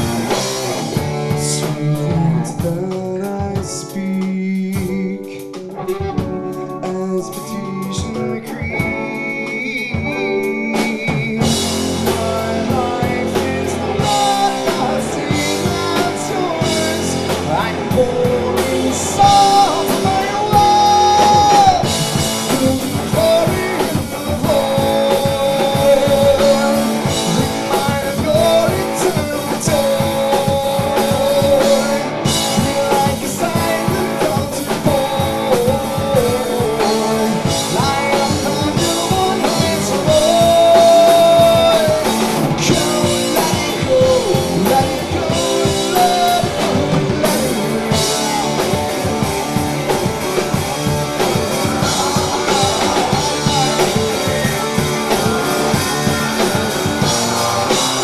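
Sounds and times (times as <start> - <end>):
drum kit pounding: 0.0 - 58.0
guitar: 0.0 - 58.0
person singing: 0.0 - 58.0.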